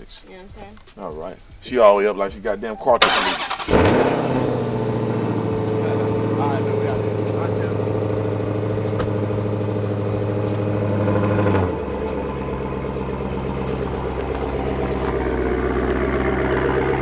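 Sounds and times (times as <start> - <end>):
car engine idling and revving: 3.0 - 17.0.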